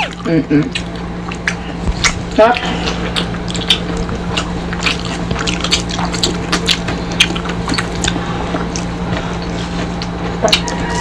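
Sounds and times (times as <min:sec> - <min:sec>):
people chewing and lip smacking: 0:00.0 - 0:11.0
steady low hum: 0:00.0 - 0:11.0.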